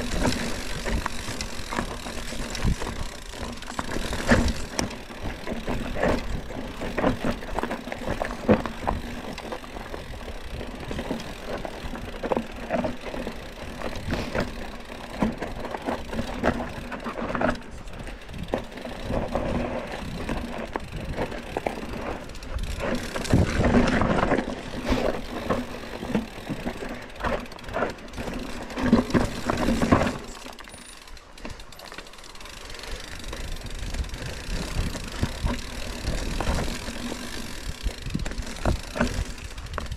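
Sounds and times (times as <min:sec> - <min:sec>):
bike frame rattling: 0:00.0 - 0:39.9
bike tyres rolling over dirt: 0:00.0 - 0:39.9.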